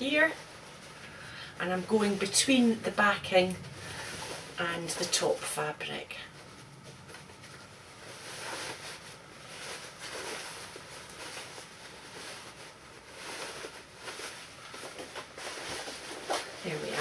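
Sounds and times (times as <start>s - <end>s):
fabric rustling and swishing: 0.0s - 17.0s.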